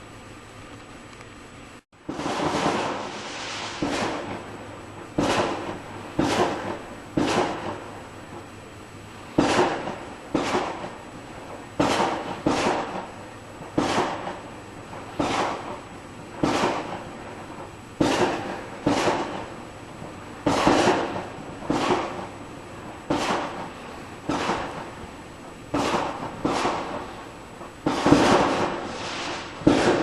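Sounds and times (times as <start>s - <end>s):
fireworks banging: 2.0s - 30.0s.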